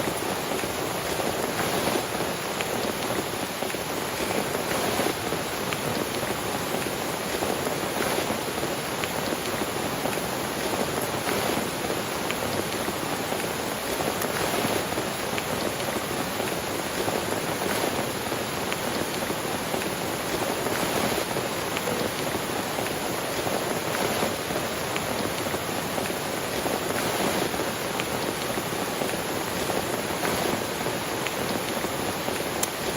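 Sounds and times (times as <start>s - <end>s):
heavy rain hissing: 0.0s - 32.9s
raindrops ticking on surface: 0.0s - 32.9s.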